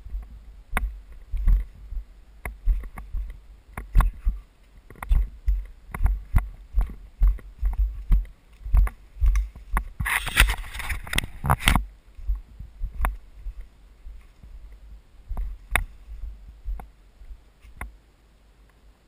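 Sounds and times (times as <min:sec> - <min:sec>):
footsteps on leafy forest trail: 0:00.0 - 0:17.8
leaves and branches rustling: 0:00.0 - 0:19.0.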